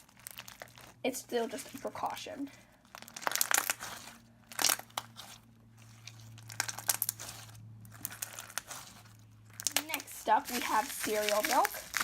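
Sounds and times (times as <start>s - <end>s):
bead slime crunching and crackling: 0.0s - 12.0s.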